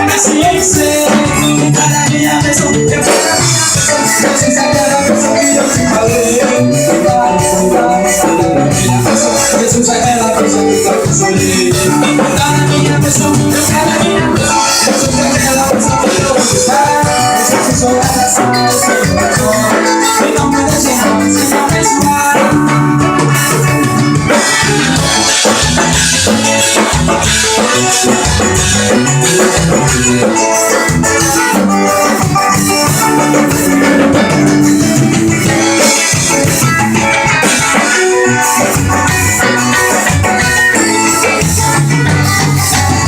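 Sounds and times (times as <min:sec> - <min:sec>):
drum kit: 0:00.0 - 0:43.0
electric bass: 0:00.0 - 0:43.0
guitar: 0:00.0 - 0:43.0.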